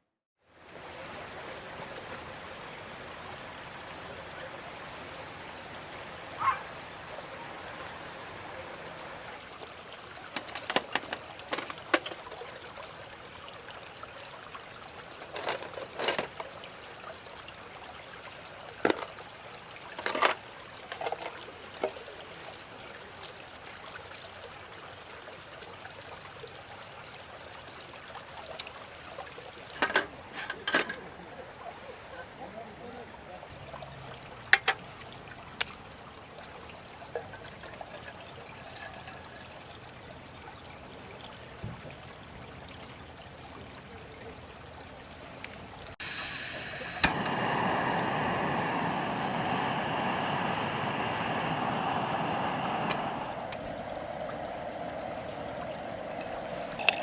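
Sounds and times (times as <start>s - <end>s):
water-like trickling hiss: 0.5s - 44.3s, 45.0s - 57.0s.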